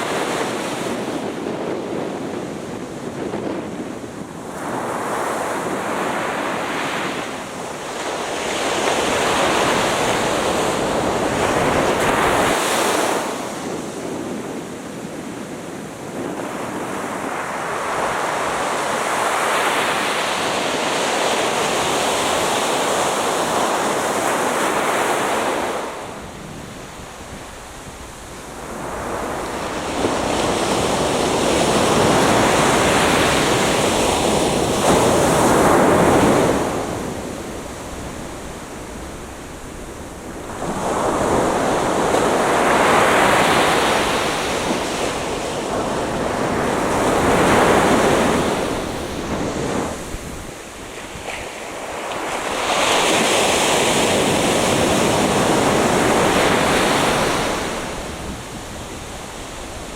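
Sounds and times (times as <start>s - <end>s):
surf breaking on a beach: 0.0s - 59.9s.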